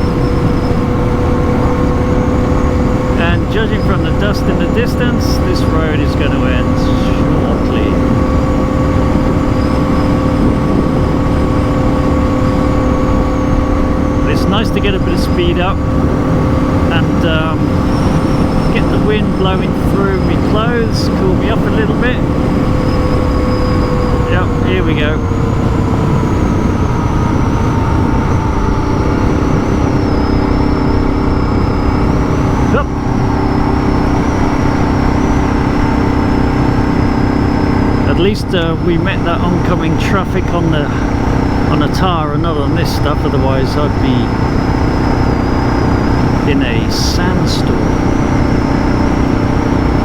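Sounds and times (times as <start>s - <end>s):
heavy wind noise: 0.0s - 50.0s
motorcycle engine cruising: 0.0s - 50.0s.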